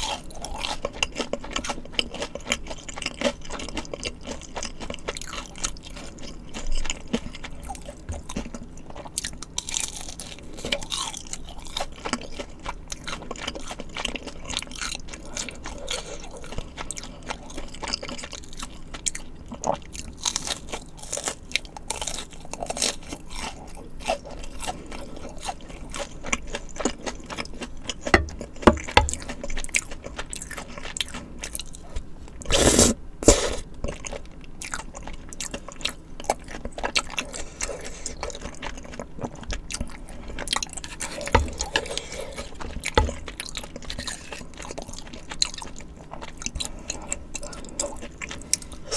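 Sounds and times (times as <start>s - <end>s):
crunchy bites and chewing: 0.0s - 48.9s.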